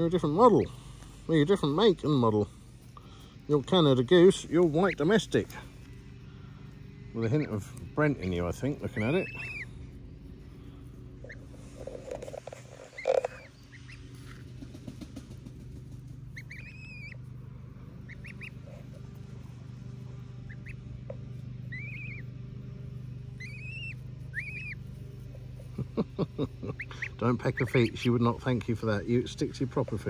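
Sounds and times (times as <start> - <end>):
goslings peeping: 0.0 - 30.0
steady low hum: 0.0 - 30.0.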